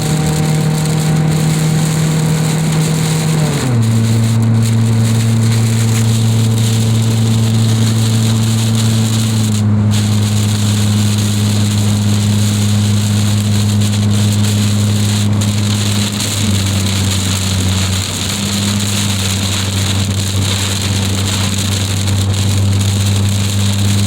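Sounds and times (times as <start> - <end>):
heavy rain pouring: 0.0 - 24.0
loud low hum: 0.0 - 24.0.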